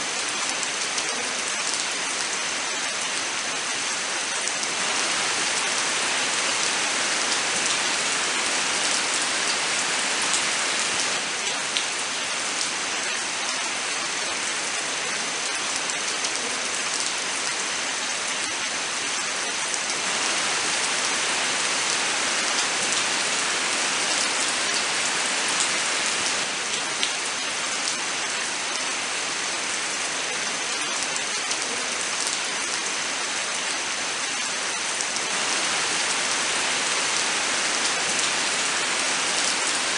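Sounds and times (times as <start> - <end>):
heavy rain in a forest: 0.0 - 39.9.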